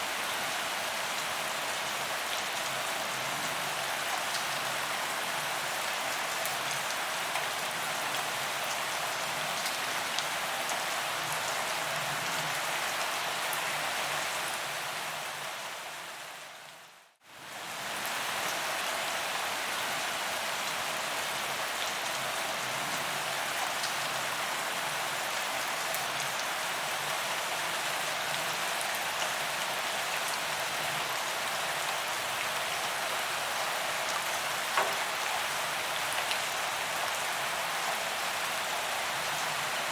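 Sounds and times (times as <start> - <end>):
rain on pavement: 0.1 - 16.8, 17.5 - 39.9.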